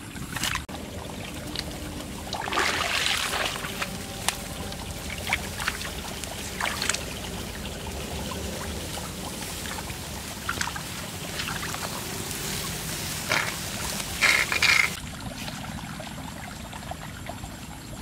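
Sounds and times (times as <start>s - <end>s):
person wading in water: 0.0s - 17.5s
water trickling: 0.0s - 18.0s.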